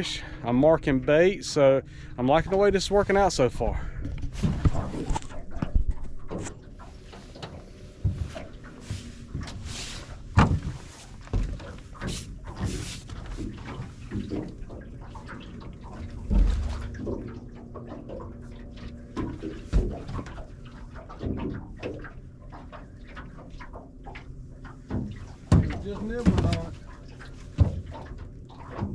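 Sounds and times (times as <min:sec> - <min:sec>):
knocks and thumps on boat: 0:03.8 - 0:28.9.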